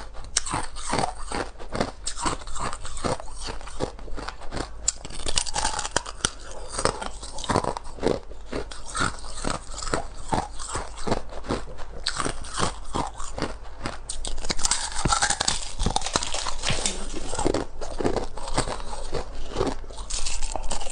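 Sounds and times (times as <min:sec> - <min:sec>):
thin ice crunching being chewed: 0:00.2 - 0:20.9.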